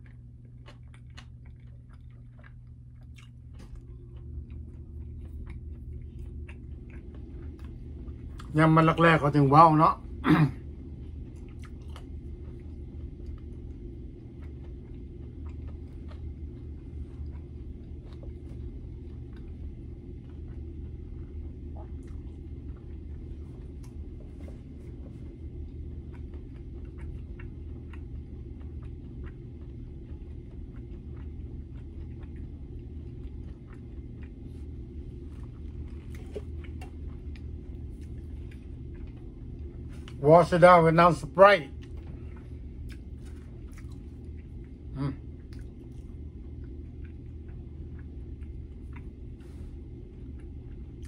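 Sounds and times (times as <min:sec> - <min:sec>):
person chewing food: 0:00.0 - 0:40.6, 0:41.2 - 0:51.0
steady low hum: 0:00.0 - 0:51.0.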